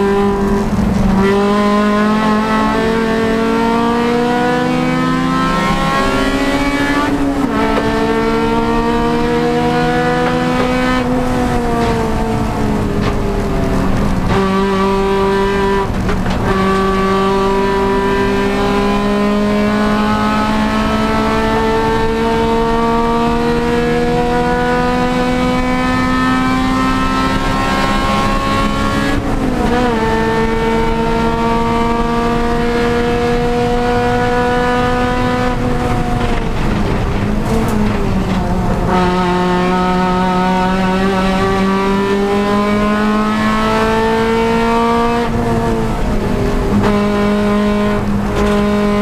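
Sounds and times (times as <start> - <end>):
race car engine accelerating: 0.0 - 49.0.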